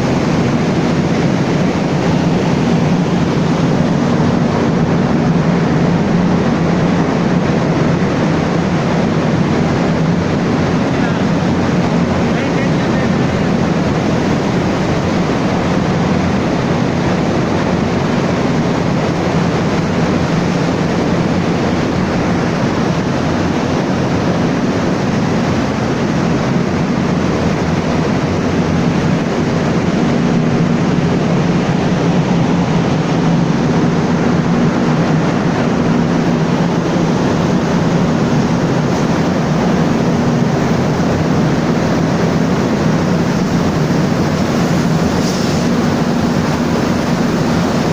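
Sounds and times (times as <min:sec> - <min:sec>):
diesel generator engine drone: 0:00.0 - 0:47.9.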